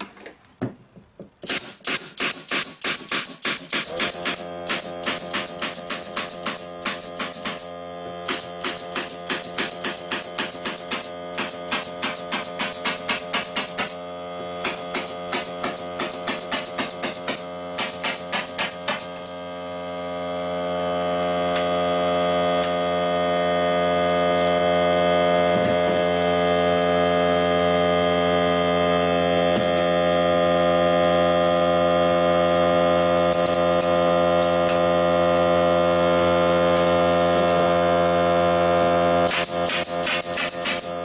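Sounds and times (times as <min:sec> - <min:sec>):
air compressor motor hum: 0:01.4 - 0:41.0.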